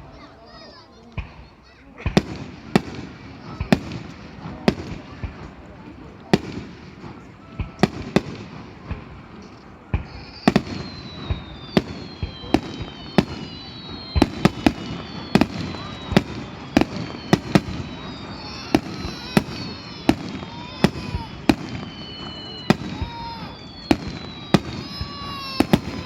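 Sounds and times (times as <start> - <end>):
fireworks bangs: 0.0 - 26.0
falling whistling tones: 2.6 - 26.0.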